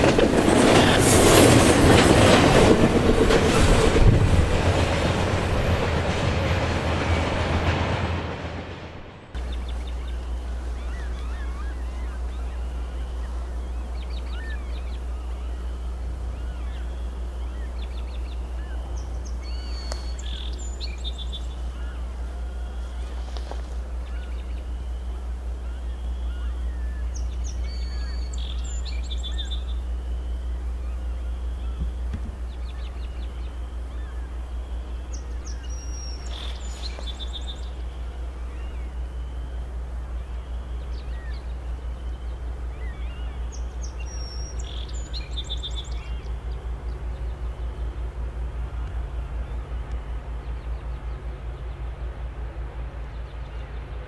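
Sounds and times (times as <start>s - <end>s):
songbirds chirping and trilling: 0.0s - 8.1s, 9.3s - 54.0s
distant diesel locomotive rumble: 0.0s - 54.0s.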